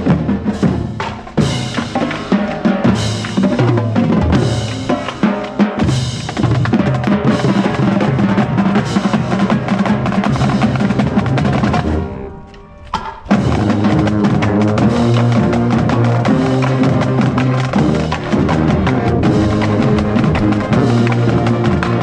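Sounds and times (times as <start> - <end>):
bass and snare drums: 0.0 - 12.2, 12.9 - 22.0
marching band playing: 0.0 - 22.0.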